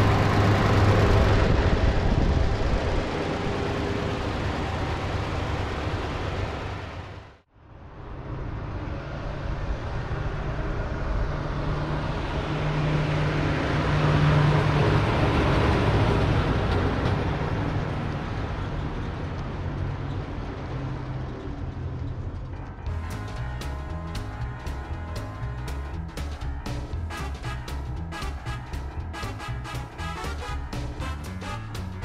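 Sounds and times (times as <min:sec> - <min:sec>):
truck engine running: 0:00.0 - 0:07.4, 0:12.2 - 0:32.0
truck driving past: 0:00.0 - 0:32.0.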